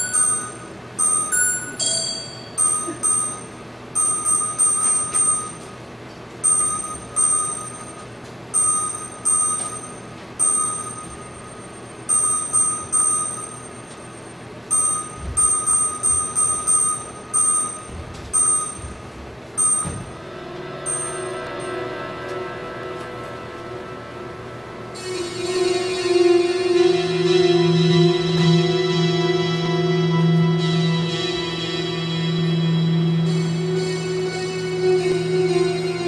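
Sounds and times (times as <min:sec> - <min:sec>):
electronic bell-like ringing tones: 0:00.0 - 0:05.8, 0:06.4 - 0:35.8.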